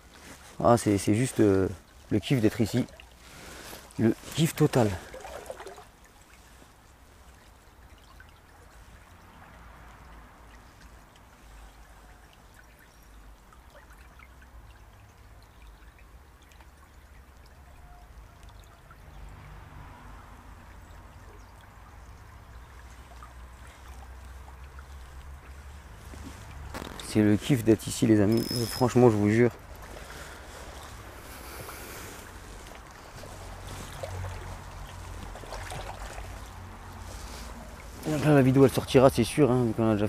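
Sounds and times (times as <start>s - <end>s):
stream trickling: 0.0s - 40.0s.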